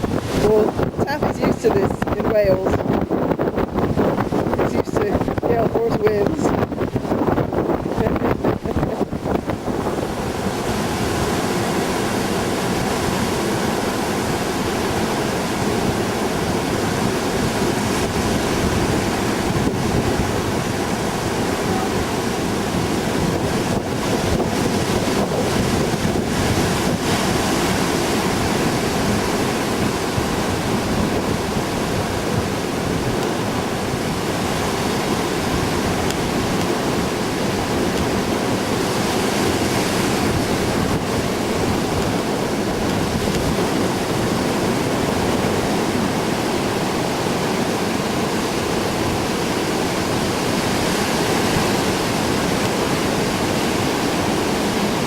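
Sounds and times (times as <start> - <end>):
surf breaking on beach: 0.0 - 55.0
wind on microphone: 0.0 - 55.0.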